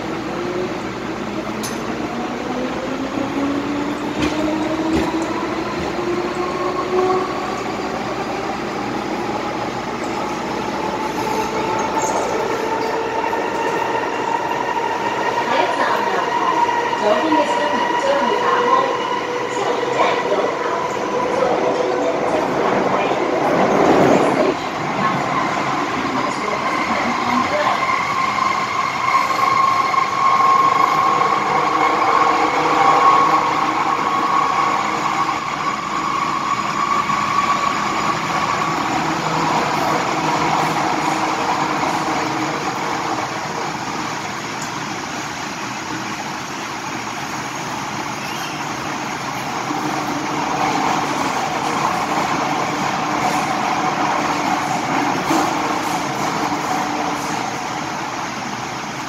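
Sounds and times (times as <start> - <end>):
train rumbling through tunnel: 0.0 - 59.0
train whine: 0.0 - 59.0.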